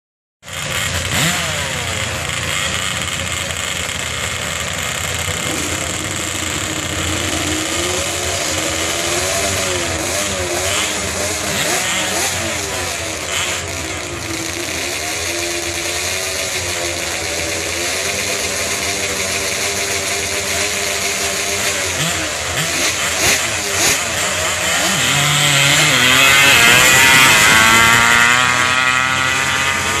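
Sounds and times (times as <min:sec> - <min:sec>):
three-wheeler engine revving: 0:00.4 - 0:30.0.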